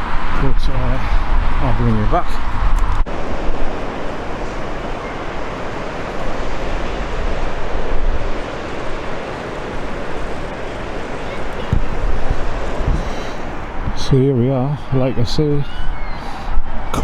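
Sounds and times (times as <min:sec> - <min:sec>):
outdoor rushing noise: 0:00.0 - 0:17.0
wind buffeting microphone: 0:00.0 - 0:17.0.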